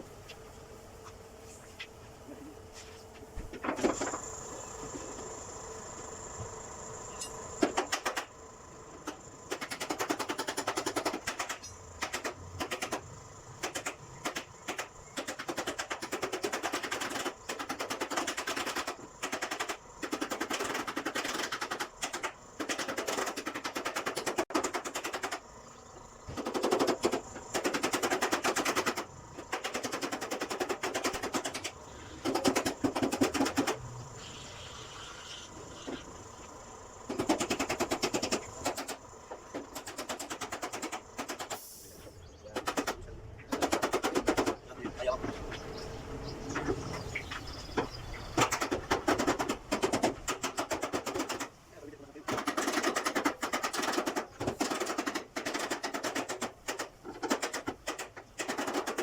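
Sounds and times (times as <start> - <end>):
rapid mechanical rattling: 3.5 - 59.0.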